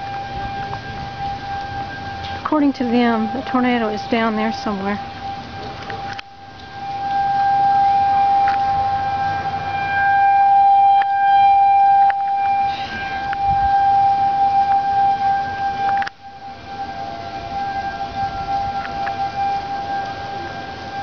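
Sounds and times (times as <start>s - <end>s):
warning siren steady tone: 0.0s - 21.0s.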